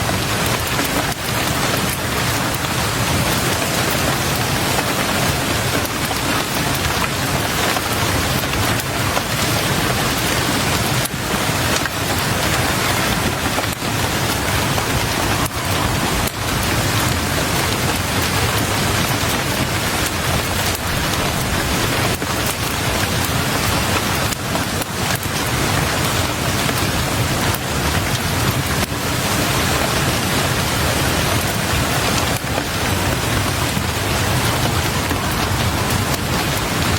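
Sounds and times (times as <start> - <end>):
heavy rain on window glass: 0.0 - 36.9.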